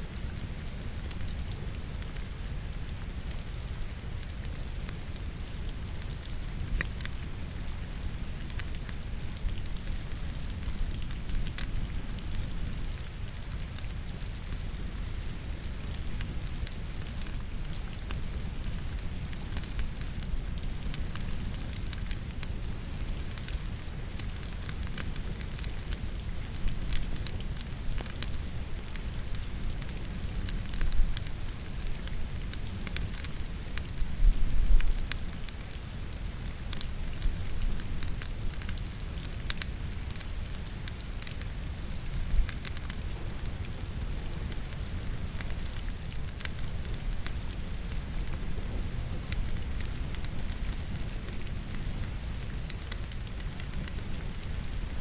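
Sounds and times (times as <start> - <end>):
rain: 0.0 - 55.0
firewood crackling and popping: 0.1 - 55.0.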